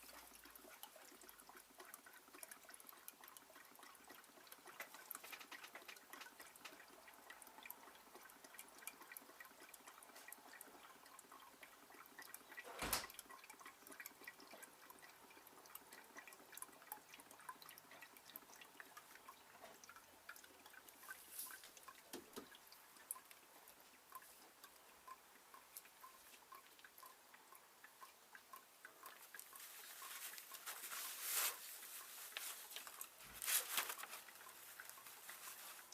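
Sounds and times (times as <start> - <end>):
oil dripping into tub: 0.0 - 35.9.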